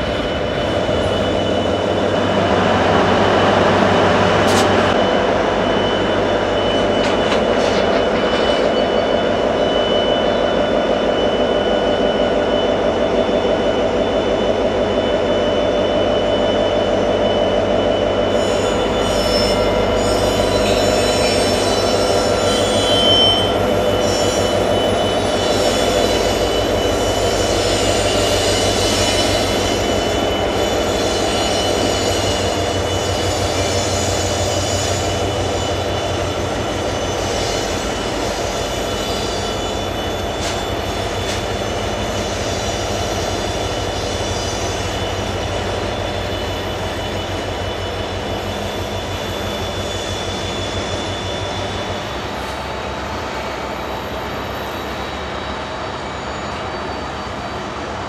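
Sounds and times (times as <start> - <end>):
high wheel squeal: 0.0 - 58.0.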